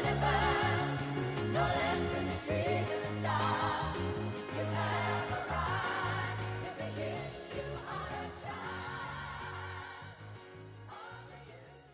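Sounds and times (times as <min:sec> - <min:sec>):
pop song with singing: 0:00.0 - 0:11.9.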